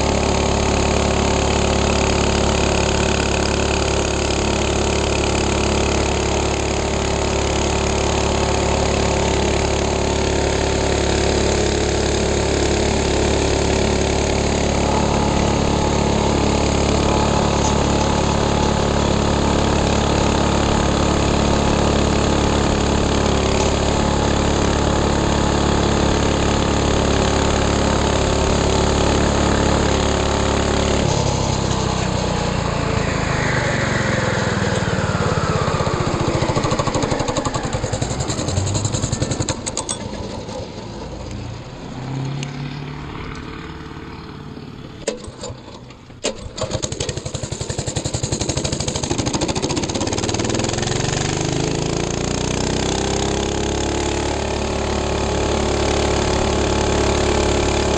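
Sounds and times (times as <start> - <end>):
minibike engine running: 0.0 - 41.8, 42.8 - 57.9.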